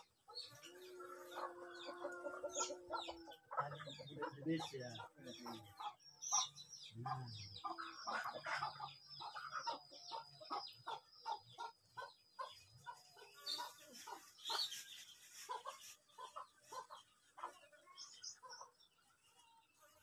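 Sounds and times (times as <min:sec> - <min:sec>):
chickens clucking: 0:00.0 - 0:19.8.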